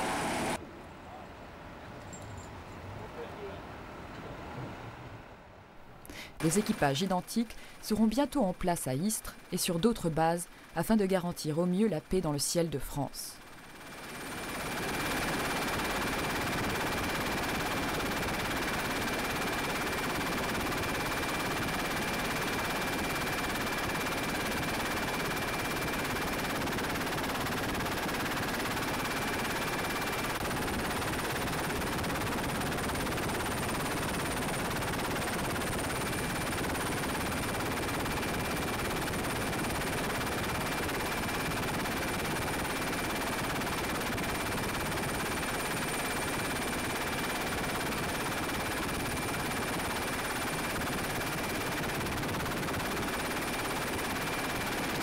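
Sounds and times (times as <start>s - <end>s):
helicopter rotor chop: 6.4s - 55.0s.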